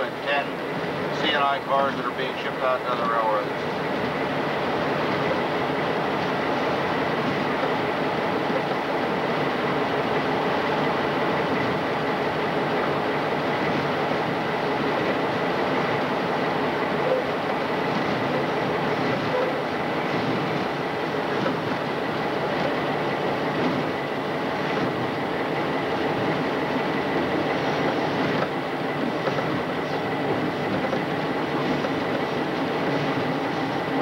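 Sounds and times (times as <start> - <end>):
diesel locomotive engine: 0.0 - 34.0
train wheels clickety-clack: 0.0 - 34.0.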